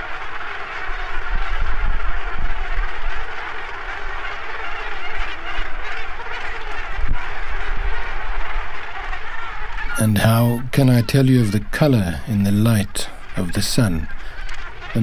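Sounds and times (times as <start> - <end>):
seabird colony calling: 0.0 - 15.0.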